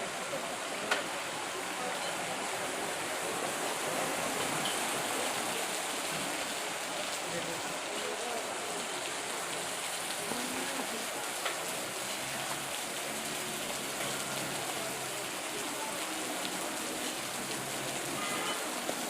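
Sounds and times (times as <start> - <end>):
floodwater running over road: 0.0 - 19.0.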